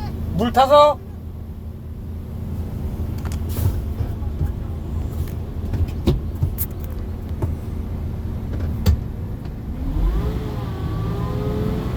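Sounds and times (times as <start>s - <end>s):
vehicle engine rumbling: 0.0s - 11.9s.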